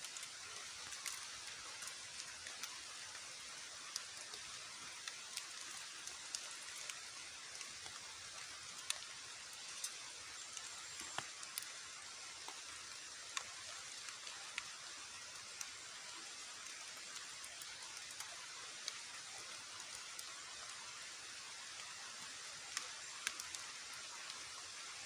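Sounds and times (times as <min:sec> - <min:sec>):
rain falling: 0:00.0 - 0:25.0
raindrops ticking close by: 0:00.0 - 0:25.0.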